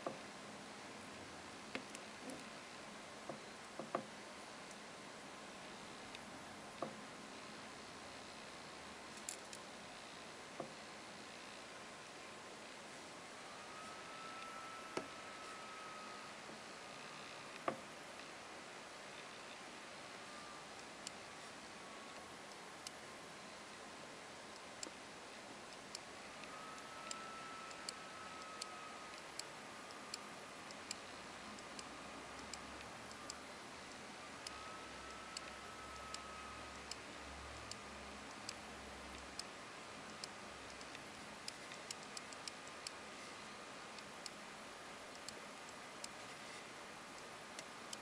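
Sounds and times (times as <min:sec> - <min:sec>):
faint hiss: 0:00.0 - 0:48.0.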